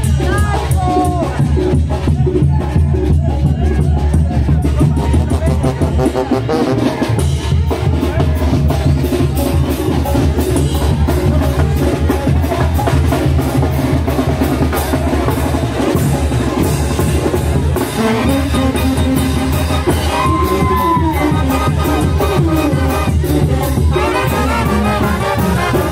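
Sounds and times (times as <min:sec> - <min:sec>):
brass band playing: 0:00.0 - 0:25.9.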